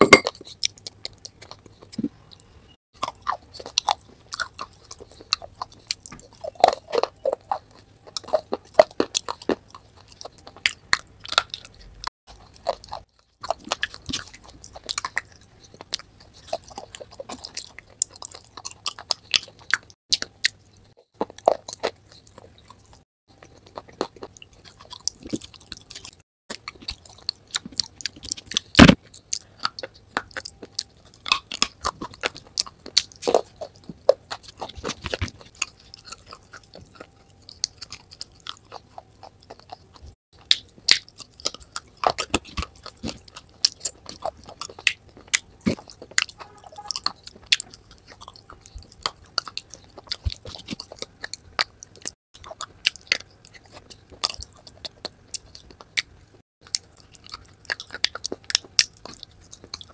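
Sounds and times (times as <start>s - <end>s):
chewing crunchy clay: 0.0s - 59.9s.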